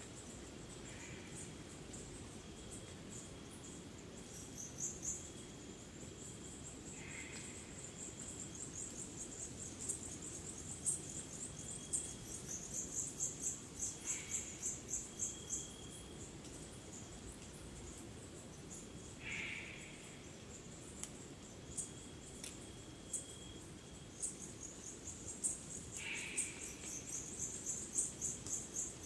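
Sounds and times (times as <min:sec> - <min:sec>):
crickets and insects chirping: 0:00.0 - 0:29.0.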